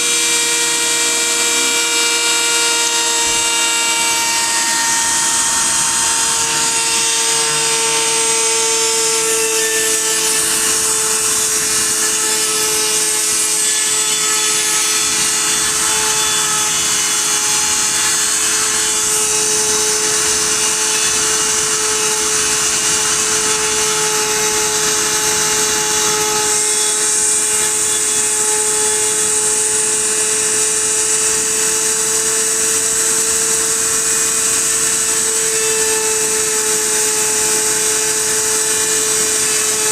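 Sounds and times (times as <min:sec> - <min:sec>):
cnc spindle motor whine: 0:00.0 - 0:39.9.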